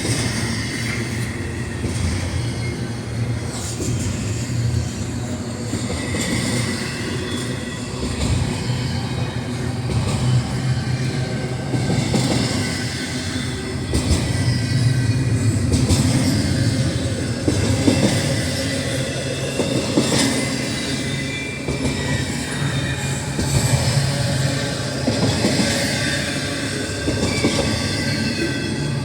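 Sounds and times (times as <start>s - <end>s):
high wheel squeal: 0.0s - 29.0s
steel wheels rumbling on rail: 0.0s - 29.0s
train clanks: 0.0s - 29.0s.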